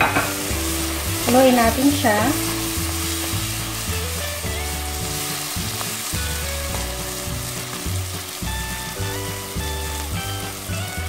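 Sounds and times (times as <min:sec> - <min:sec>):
soft background music: 0:00.0 - 0:11.0
vegetables sizzling in oil: 0:00.0 - 0:11.0
wooden spatula stirring: 0:00.3 - 0:10.1.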